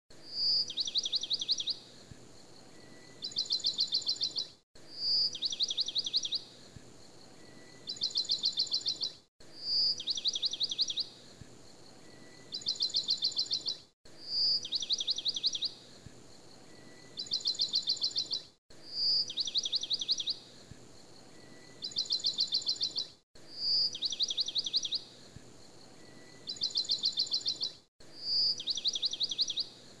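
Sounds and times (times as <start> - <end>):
bird song with trills: 0.2 - 30.0.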